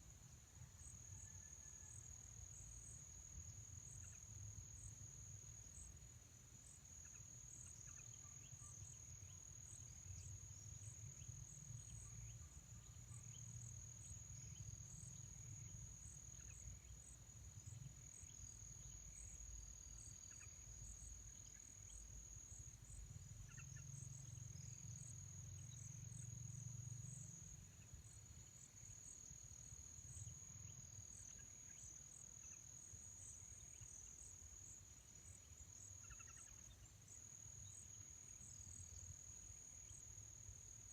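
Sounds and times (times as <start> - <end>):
insect trill: 0.0 - 40.9.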